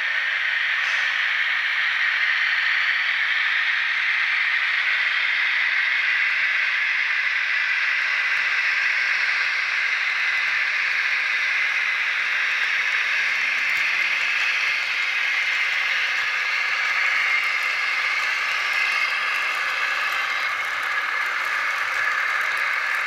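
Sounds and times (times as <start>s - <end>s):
model train engine sound from speaker: 0.0s - 23.0s.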